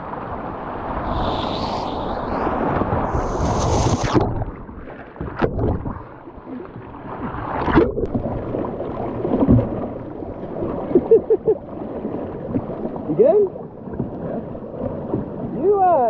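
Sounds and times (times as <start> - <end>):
muffled underwater rushing water: 0.0 - 16.0.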